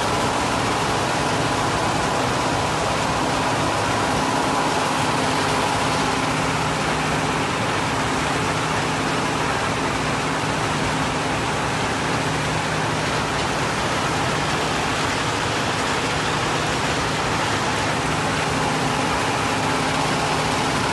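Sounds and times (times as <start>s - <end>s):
steady hum: 0.0s - 20.9s.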